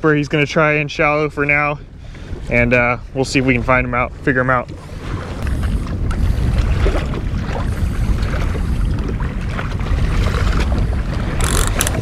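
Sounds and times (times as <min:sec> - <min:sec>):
low wind rumble on microphone: 0:00.0 - 0:12.0
water lapping against kayak hull: 0:00.0 - 0:12.0.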